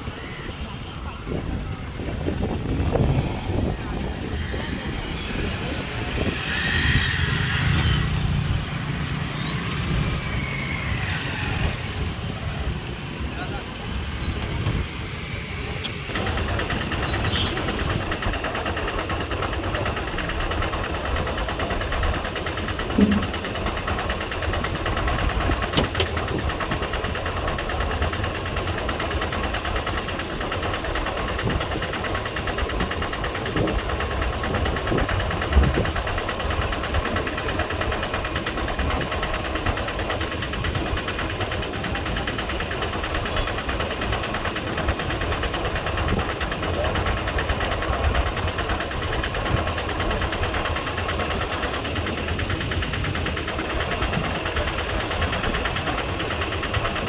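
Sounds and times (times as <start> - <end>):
ferry engine running: 0.0 - 57.0.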